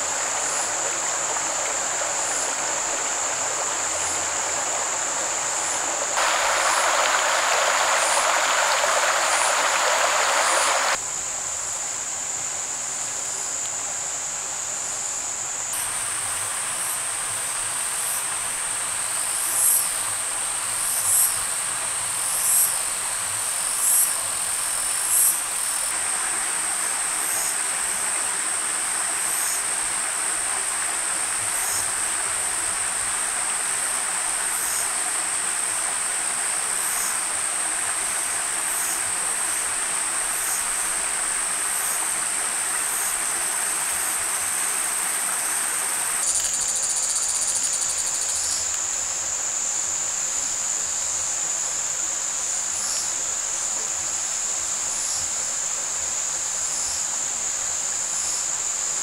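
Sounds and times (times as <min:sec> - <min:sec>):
soft hiss: 0:00.0 - 0:14.5, 0:15.3 - 0:59.0
forest insects droning: 0:00.0 - 0:59.0.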